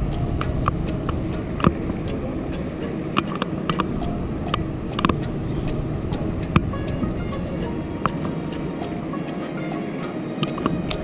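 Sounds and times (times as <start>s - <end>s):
raindrops dripping and tapping: 0.0s - 11.0s.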